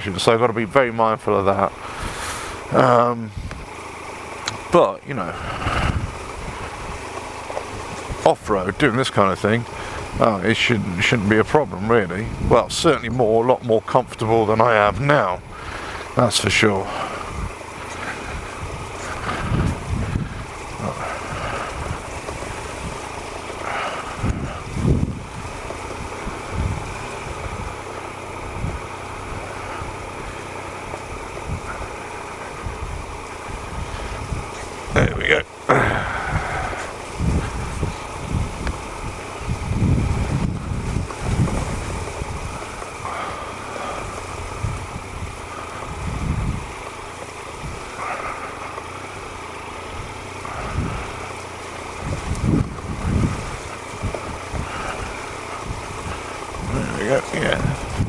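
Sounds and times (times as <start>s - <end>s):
low rumbles from ground: 0.0s - 58.0s
motorcycle engine at low revs: 0.0s - 58.0s
wind buffeting microphone: 0.0s - 58.0s.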